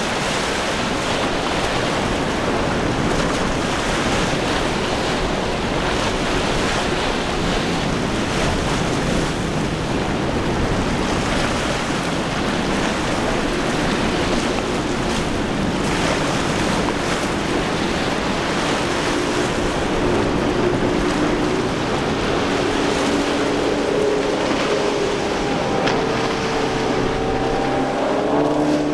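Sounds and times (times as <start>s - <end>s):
boat engine hum: 0.0s - 28.9s
surf and rushing water: 0.0s - 28.9s
wind buffeting microphone: 0.0s - 28.9s.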